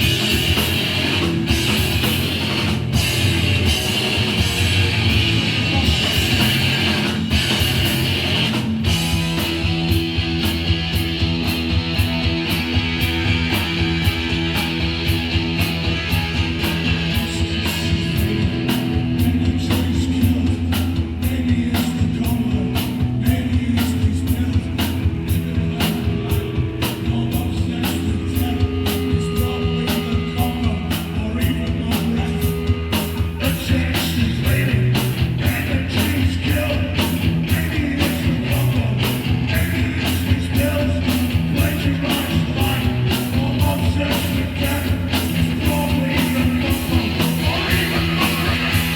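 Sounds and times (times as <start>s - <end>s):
bass guitar: 0.0s - 48.9s
distorted guitar: 0.0s - 48.9s
driving drum beat: 0.0s - 48.9s.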